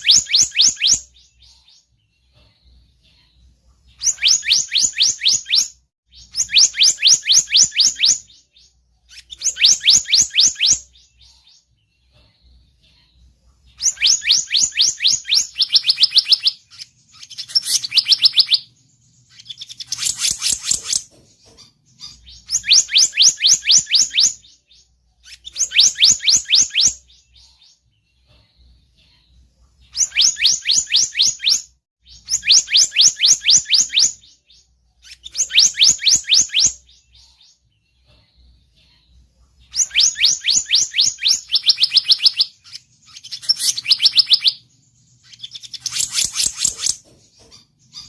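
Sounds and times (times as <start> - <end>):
bird song trilled whistles: 0.0 - 2.0, 4.0 - 11.7, 13.8 - 21.0, 21.6 - 28.2, 29.9 - 38.0, 39.6 - 48.0.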